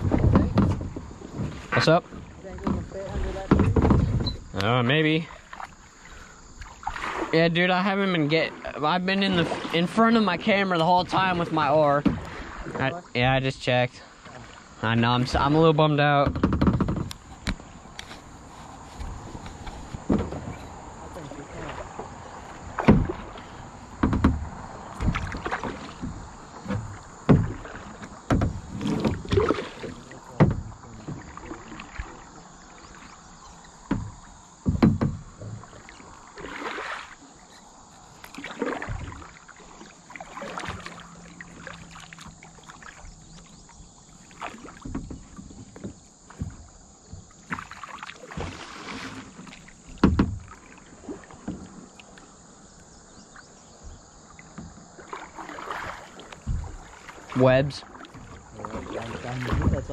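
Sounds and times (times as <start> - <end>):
paddle strokes splashing in water: 0.0 - 13.2, 14.0 - 59.9.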